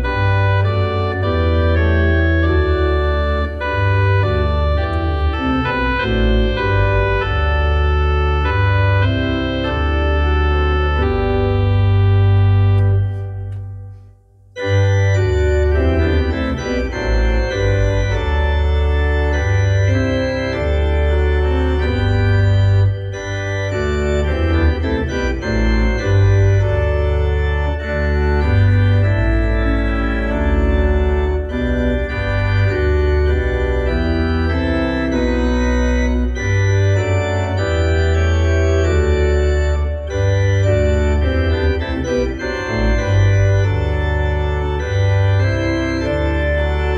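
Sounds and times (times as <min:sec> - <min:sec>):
organ music: 0:00.0 - 0:46.9.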